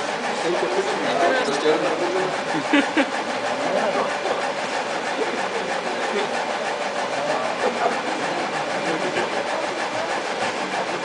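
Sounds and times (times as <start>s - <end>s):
laser engraver motors whirring: 0.0s - 11.0s.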